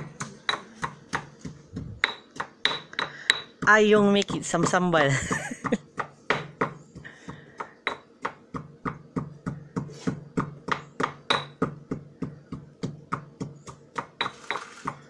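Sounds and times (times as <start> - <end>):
stone pestle pounding in mortar: 0.0 - 15.0.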